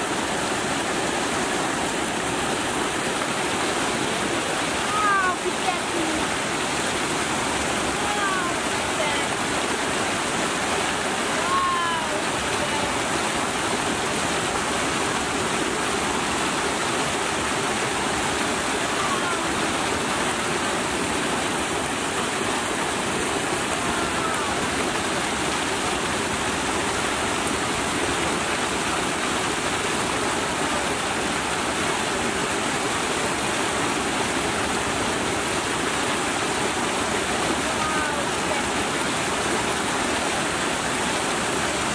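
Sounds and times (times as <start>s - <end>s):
water pouring and splashing: 0.0s - 41.9s.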